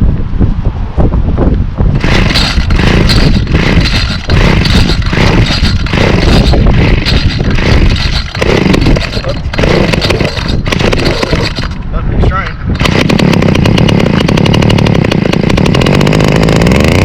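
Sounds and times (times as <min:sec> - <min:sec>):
string trimmer engine running: 0:01.9 - 0:11.9, 0:12.7 - 0:17.0.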